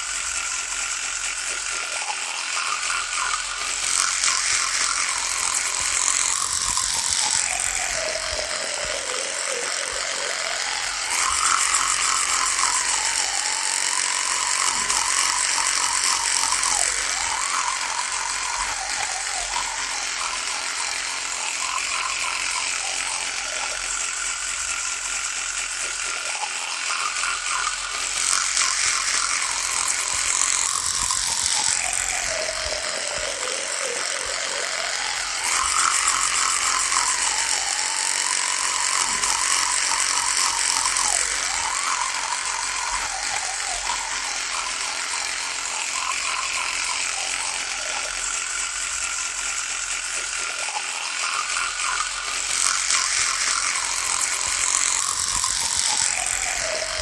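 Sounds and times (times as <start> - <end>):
electric toothbrush buzzing: 0.0 - 57.0.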